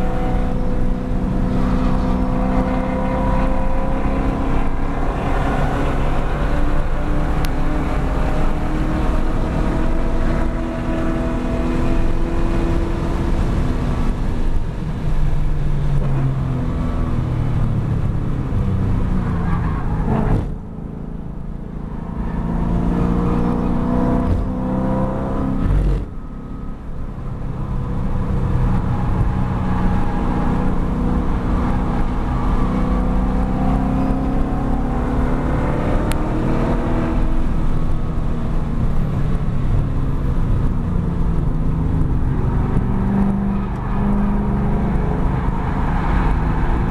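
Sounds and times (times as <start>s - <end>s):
car engine revving: 0.0s - 17.2s, 18.0s - 46.9s.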